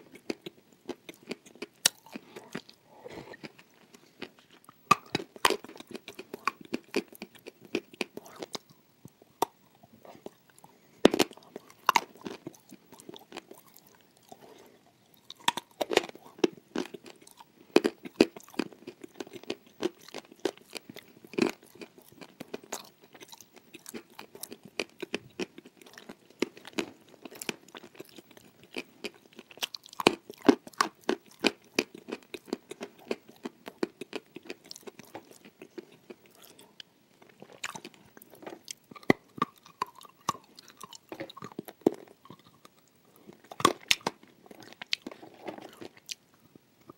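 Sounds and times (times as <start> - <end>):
person crunching cookies: 0.0 - 46.9.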